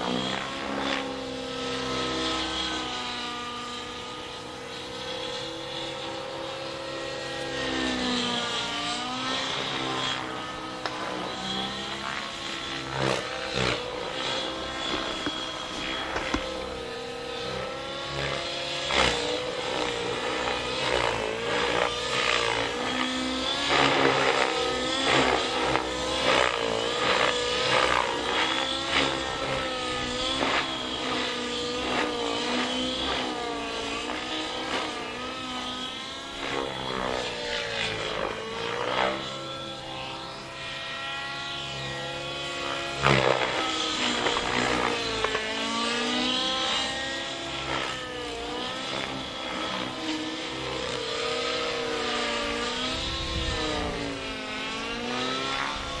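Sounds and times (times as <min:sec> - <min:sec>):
model helicopter engine buzzing: 0:00.0 - 0:56.0.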